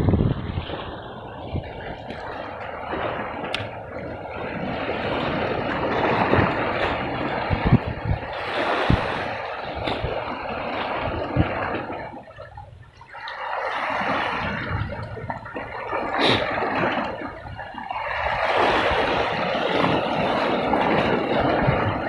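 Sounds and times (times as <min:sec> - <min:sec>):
waves splashing on rocks: 0:00.0 - 0:12.3, 0:13.3 - 0:22.0.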